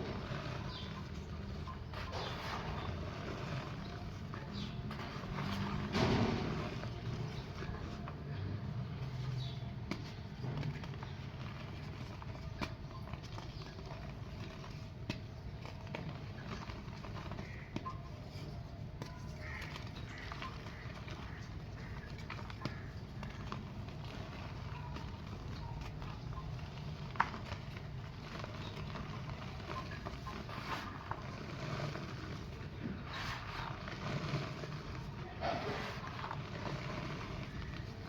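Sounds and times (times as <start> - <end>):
dry clay pots crumbling: 0.0 - 38.0.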